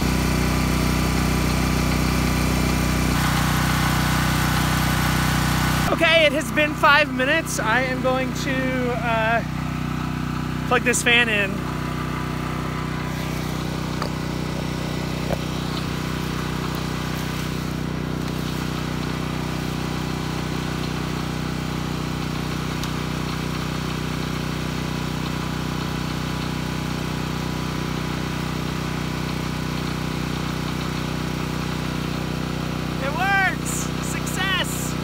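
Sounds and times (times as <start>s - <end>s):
portable generator running: 0.0s - 35.0s.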